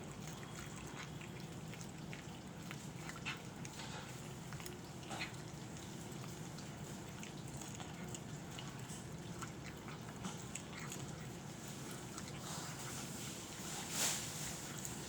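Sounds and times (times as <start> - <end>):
cat chewing and crunching: 0.0 - 15.0.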